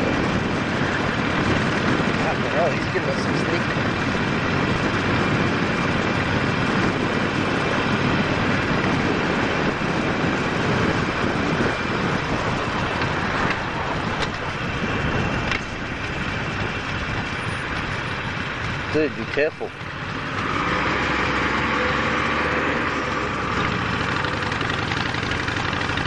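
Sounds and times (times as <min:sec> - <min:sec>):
motorcycle engine running: 0:00.0 - 0:26.0
wind rushing on microphone: 0:00.0 - 0:26.0.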